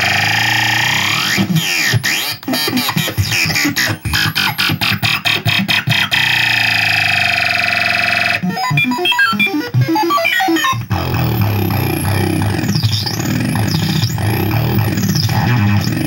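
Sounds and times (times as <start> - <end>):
toy laser blaster glitchy sounds: 0.0 - 16.0.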